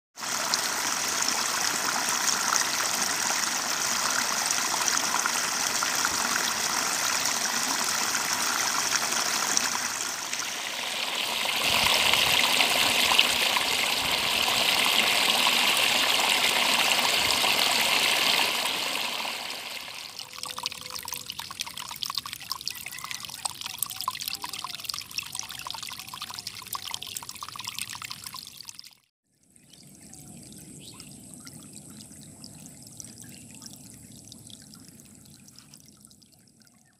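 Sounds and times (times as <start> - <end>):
water pouring into pool: 0.2 - 36.9.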